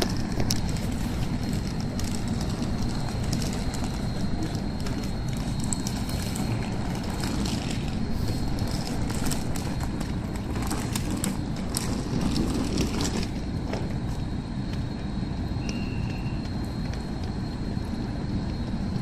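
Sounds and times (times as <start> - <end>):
faint high whine: 0.0 - 19.0
train rumbling: 0.0 - 19.0.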